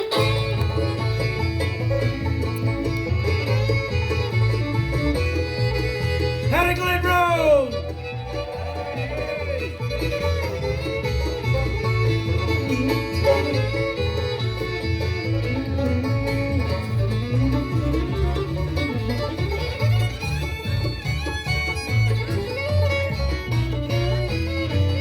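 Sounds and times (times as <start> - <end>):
bluegrass band playing: 0.0 - 25.0
fiddle melody: 0.0 - 25.0.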